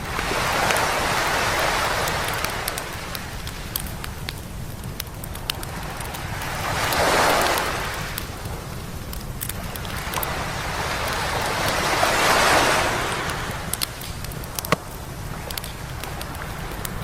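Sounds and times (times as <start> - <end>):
wave washing up beach: 0.0 - 4.0, 5.6 - 8.4, 9.6 - 17.0
campfire crackling and popping: 0.0 - 17.0.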